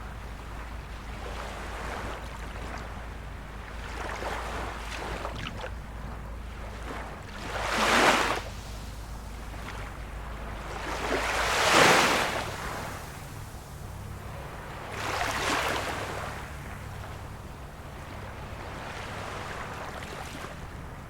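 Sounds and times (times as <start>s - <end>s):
small waves splashing on shore: 0.0s - 21.0s.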